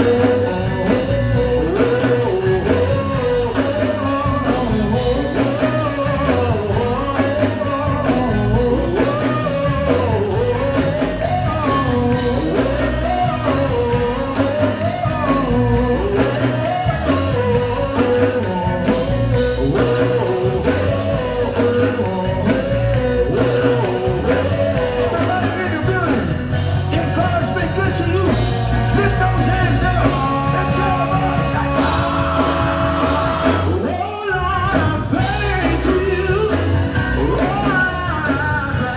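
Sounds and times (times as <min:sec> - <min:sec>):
live gospel band playing: 0:00.0 - 0:38.9.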